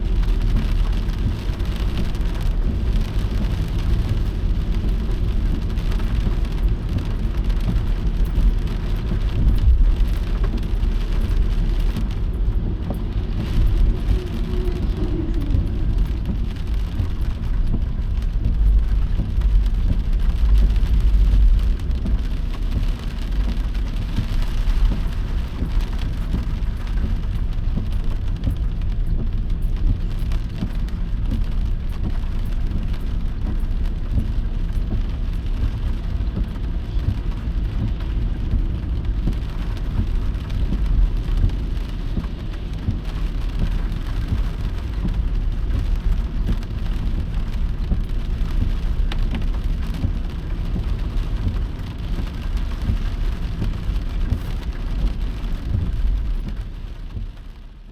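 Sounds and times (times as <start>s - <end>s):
deep low rumble: 0.0s - 57.9s
heavy rain falling: 0.0s - 57.9s.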